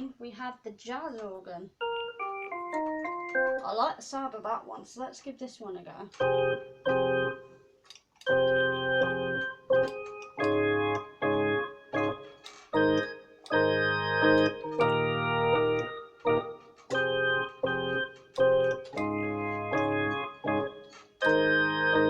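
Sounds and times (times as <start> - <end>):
keyboard organ chords: 1.8 - 3.8, 6.2 - 22.0.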